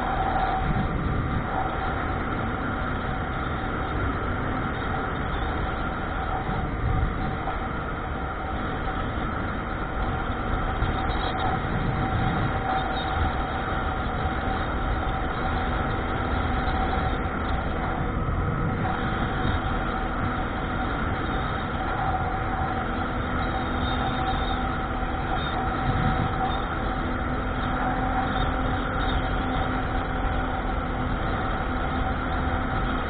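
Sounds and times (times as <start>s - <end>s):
steady tone: 0.0s - 33.0s
vehicle engine rumble: 0.0s - 33.0s.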